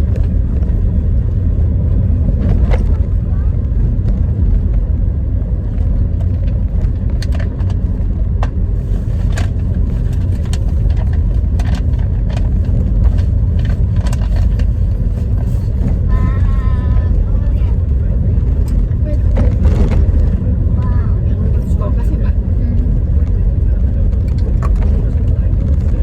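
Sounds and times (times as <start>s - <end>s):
car road noise rumble: 0.0s - 26.0s.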